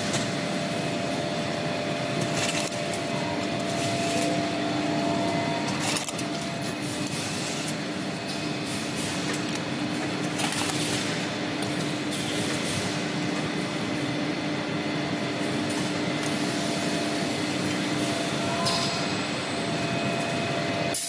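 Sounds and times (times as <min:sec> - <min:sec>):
conveyor machinery humming: 0:00.0 - 0:21.0.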